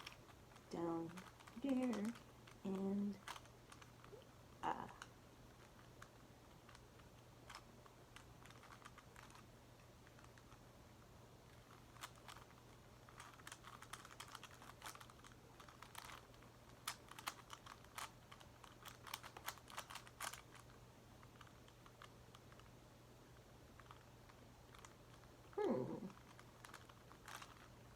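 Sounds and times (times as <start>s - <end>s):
plastic puzzle clicking: 0.0s - 4.3s, 4.9s - 10.6s, 11.5s - 22.7s, 24.7s - 27.9s.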